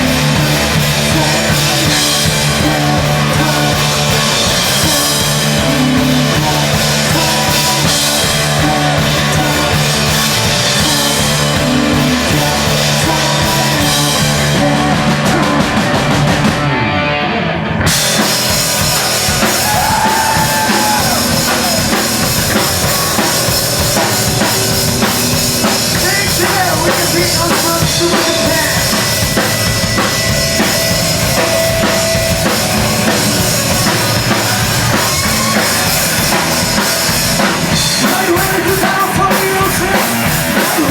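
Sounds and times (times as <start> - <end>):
pounding drum kit: 0.0 - 16.8, 17.8 - 40.9
distorted guitars: 0.0 - 40.9
hardcore band playing loud: 0.0 - 40.9.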